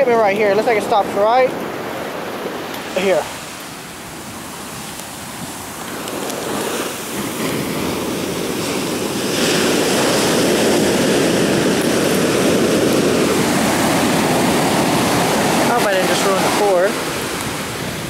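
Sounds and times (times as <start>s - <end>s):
ocean surf rushing: 0.0s - 18.0s.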